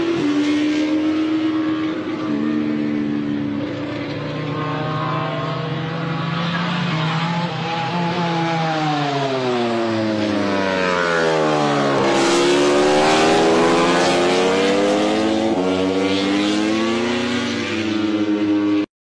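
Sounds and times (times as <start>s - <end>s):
racing motorcycle engine: 0.0s - 18.9s.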